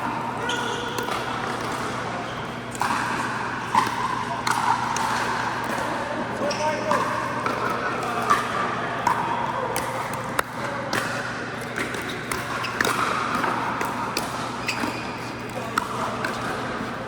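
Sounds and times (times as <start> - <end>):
ball bouncing on court: 2.7 - 17.0.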